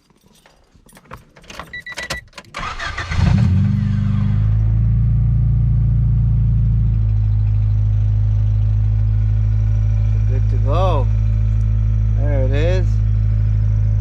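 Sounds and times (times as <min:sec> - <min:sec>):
car engine cranking and idling: 0:00.1 - 0:14.0.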